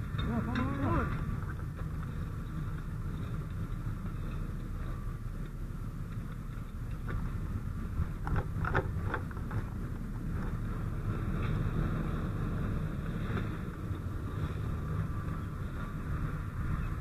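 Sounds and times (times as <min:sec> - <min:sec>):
fire engine rumbling: 0:00.0 - 0:17.0.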